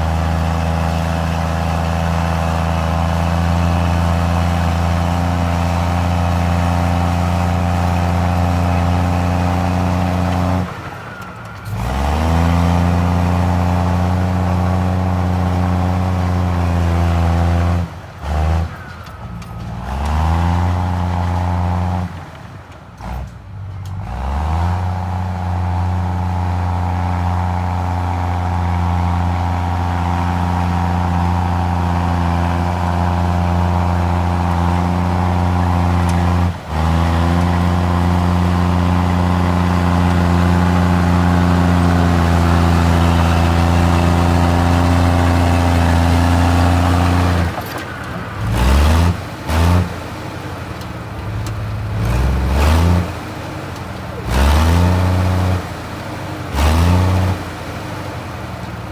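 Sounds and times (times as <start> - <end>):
bulldozer diesel engine revving: 0.0 - 58.9.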